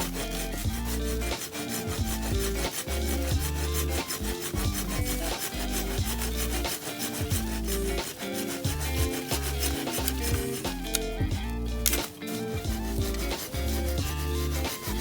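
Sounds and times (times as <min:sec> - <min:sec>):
background music with bass: 0:00.0 - 0:15.0
saw rasping through wood: 0:00.0 - 0:15.0.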